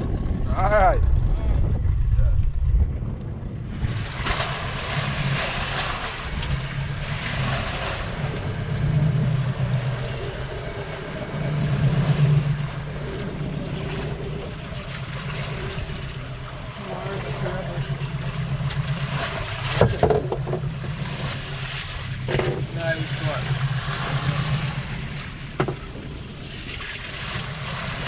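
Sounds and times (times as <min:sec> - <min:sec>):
low motor hum: 0:00.0 - 0:28.0
sea noise: 0:00.0 - 0:28.0
wind buffeting microphone: 0:00.0 - 0:28.0.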